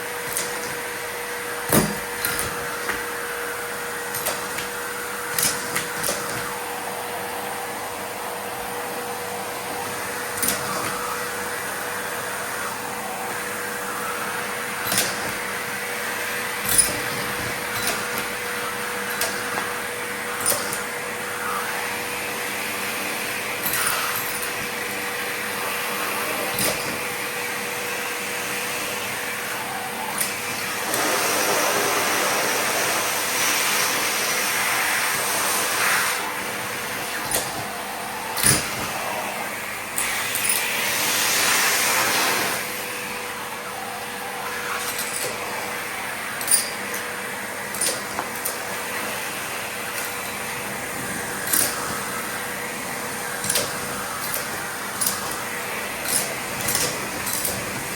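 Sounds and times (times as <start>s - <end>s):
vacuum cleaner humming: 0.0s - 57.9s.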